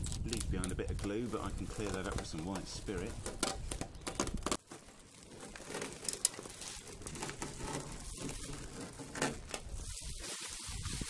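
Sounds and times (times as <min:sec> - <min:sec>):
tape and plastic sheeting crinkling: 0:00.0 - 0:11.0.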